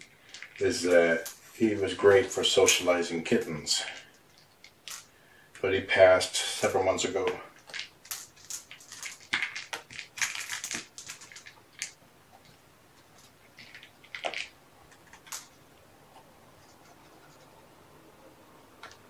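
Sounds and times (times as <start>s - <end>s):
rustling and crackling with clicks: 0.0s - 1.6s, 2.2s - 5.7s, 6.6s - 17.6s.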